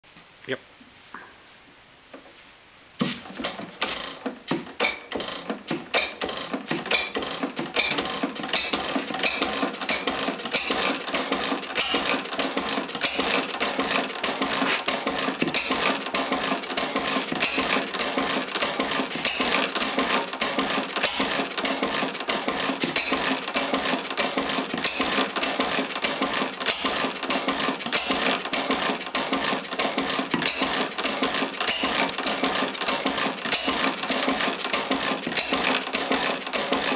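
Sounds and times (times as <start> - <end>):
antique gas engine clattering: 3.0 - 36.9.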